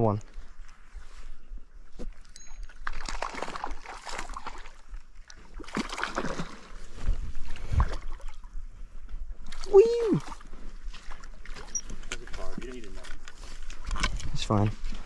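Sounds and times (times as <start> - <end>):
water sloshing and splashing: 2.0 - 8.7, 9.3 - 15.0.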